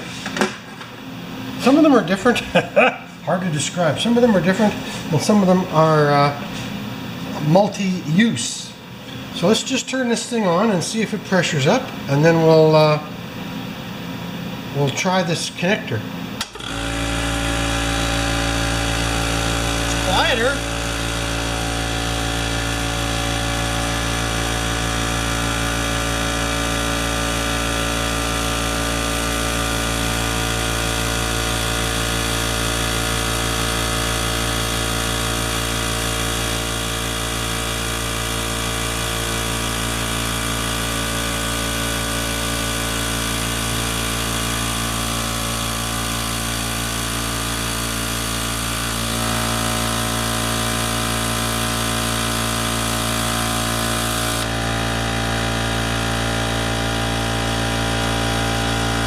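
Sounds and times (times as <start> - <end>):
air compressor running: 0.0 - 59.0.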